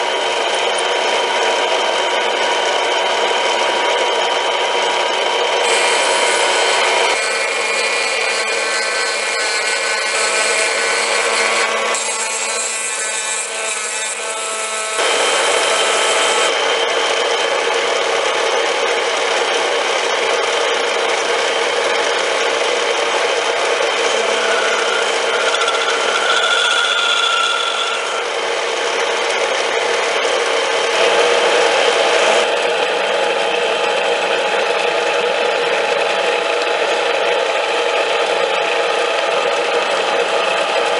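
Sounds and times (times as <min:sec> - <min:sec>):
lathe scraping metal: 0:00.0 - 0:40.9
lathe whining: 0:00.0 - 0:40.9.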